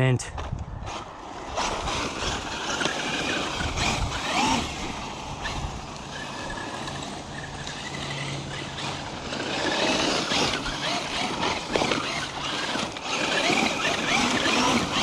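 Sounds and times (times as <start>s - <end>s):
tyres crunching on dirt: 0.4s - 15.0s
electric motor whine: 0.8s - 15.0s.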